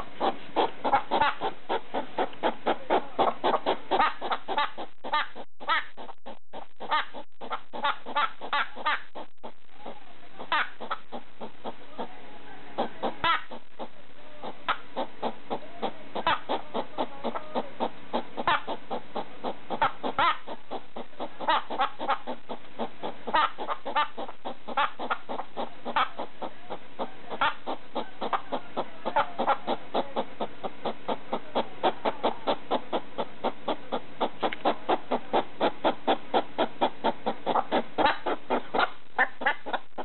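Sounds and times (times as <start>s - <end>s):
hedgehog clucking calls: 0.0s - 40.0s.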